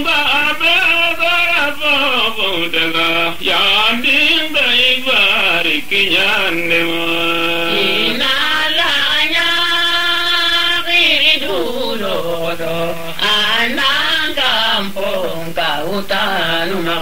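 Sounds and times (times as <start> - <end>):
person singing chant-like melody: 0.0 - 17.0.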